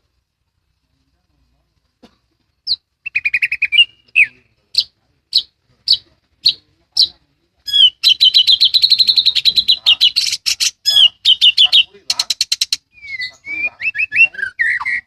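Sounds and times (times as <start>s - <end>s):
songbird chirping: 0.0s - 15.0s
songbird twittering trill: 2.6s - 15.0s.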